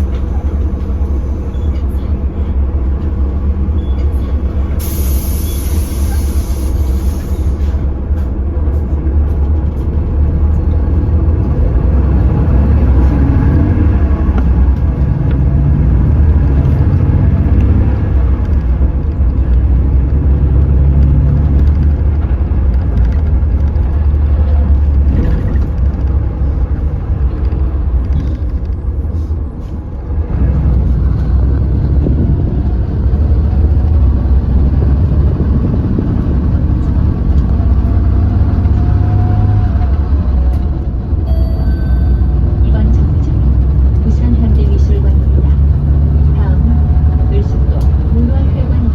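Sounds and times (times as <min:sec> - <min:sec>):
bus engine droning under load: 0:00.0 - 0:48.9.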